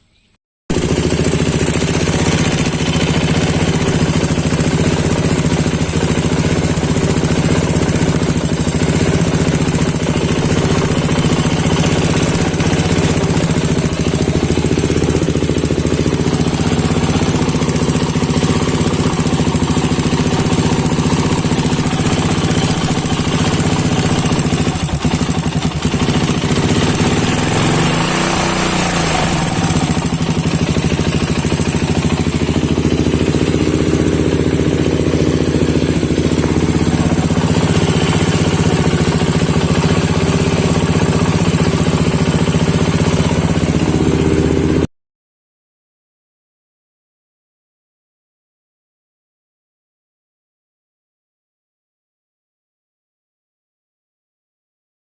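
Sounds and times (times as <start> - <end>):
motorcycle engine idling roughly: 0.7 - 44.9.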